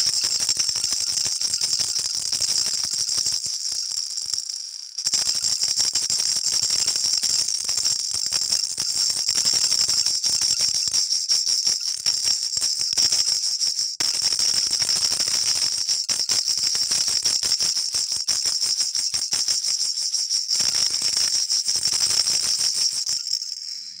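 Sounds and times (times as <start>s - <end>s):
baby rattle shaken: 0.0s - 24.0s.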